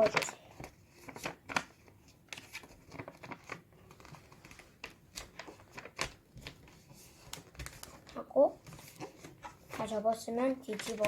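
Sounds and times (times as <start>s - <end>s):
paper being folded and creased: 0.0s - 11.0s.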